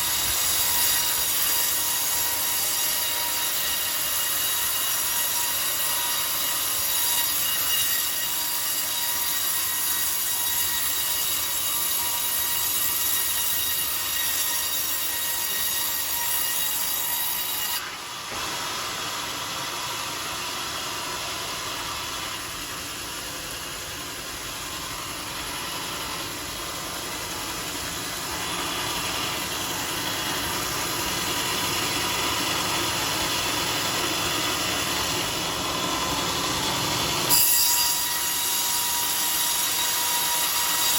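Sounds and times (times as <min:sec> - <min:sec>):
circular saw cutting log: 0:00.0 - 0:40.9.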